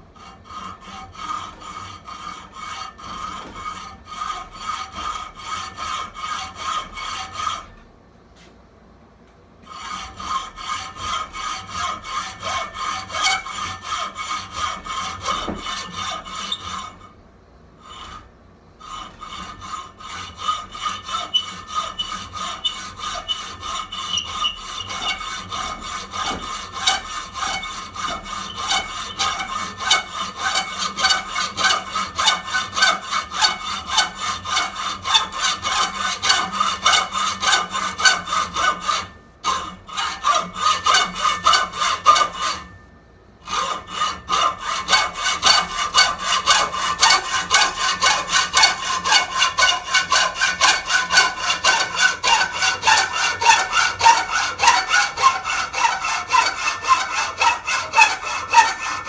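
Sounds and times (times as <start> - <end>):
hacksaw cutting metal: 0.2 - 7.8, 9.7 - 17.1, 17.9 - 42.8, 43.4 - 59.0.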